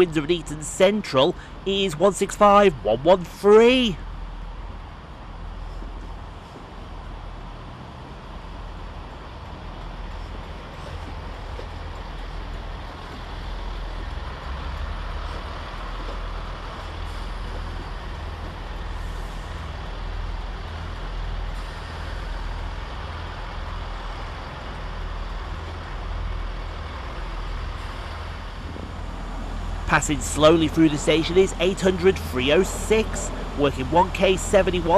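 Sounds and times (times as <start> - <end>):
diesel train engine rumble: 0.0 - 34.9.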